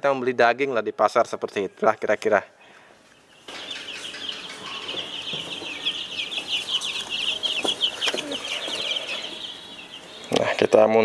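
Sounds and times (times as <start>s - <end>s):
chicks peeping: 1.2s - 11.0s.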